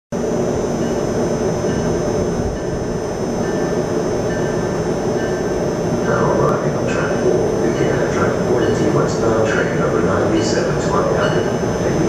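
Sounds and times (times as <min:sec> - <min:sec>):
thin high whine: 0:00.2 - 0:12.0
train rumbling: 0:00.2 - 0:12.0.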